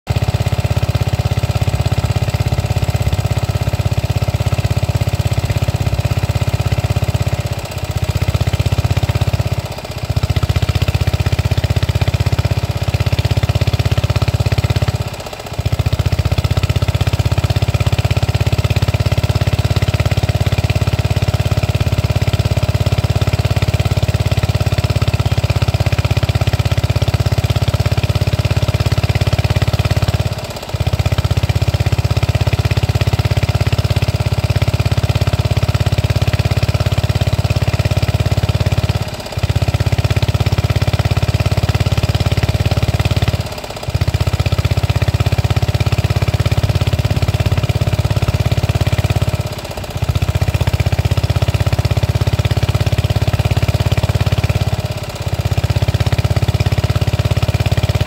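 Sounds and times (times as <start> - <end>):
small engine running: 0.1 - 58.0.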